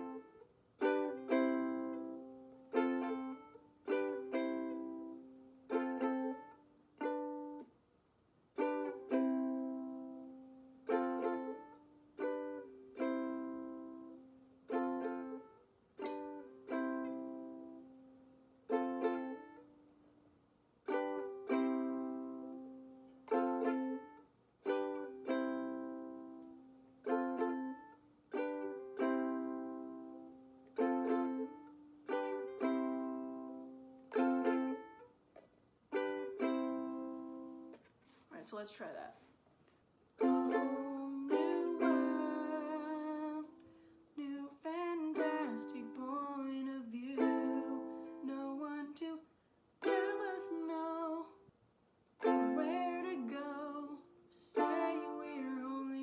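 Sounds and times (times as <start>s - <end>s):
ukulele chords strummed: 0.0s - 7.7s, 8.6s - 19.8s, 20.8s - 37.8s, 40.2s - 49.2s, 49.8s - 51.4s, 52.2s - 56.0s.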